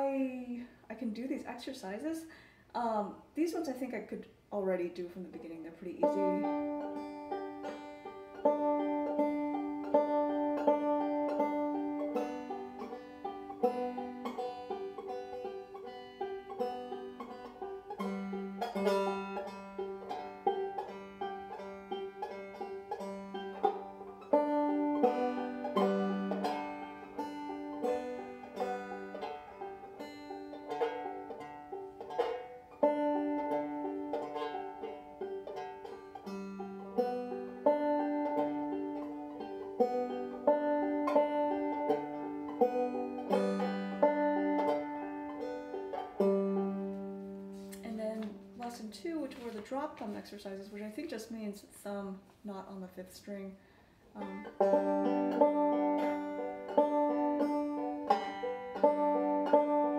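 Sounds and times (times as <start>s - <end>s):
banjo notes and strums: 4.8s - 51.3s, 54.0s - 59.9s.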